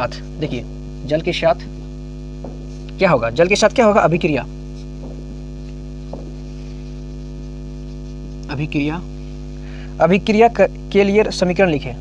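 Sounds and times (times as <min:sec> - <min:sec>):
person speaking: 0:00.0 - 0:01.8, 0:02.4 - 0:09.2, 0:10.0 - 0:12.0
electrical mains hum: 0:00.0 - 0:12.0.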